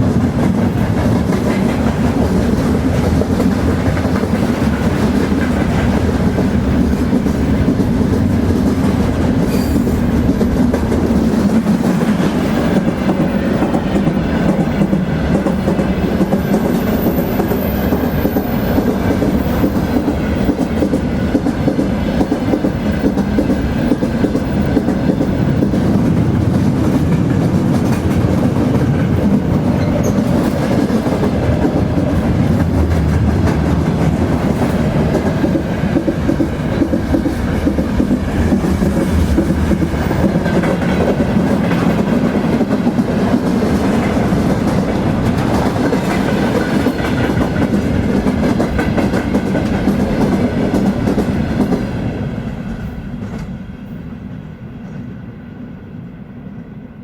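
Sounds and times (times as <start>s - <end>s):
train wheels clattering on rails: 0.0s - 53.7s.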